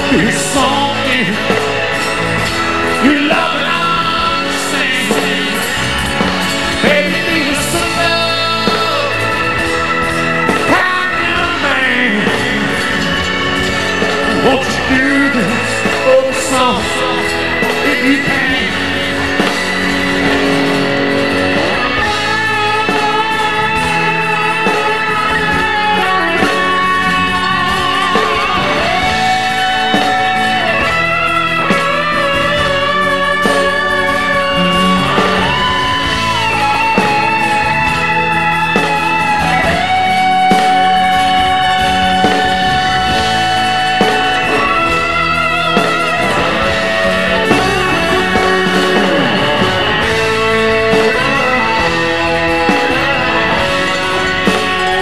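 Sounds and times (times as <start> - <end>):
electric guitar solo: 0.0 - 55.0
live rock band playing: 0.0 - 55.0.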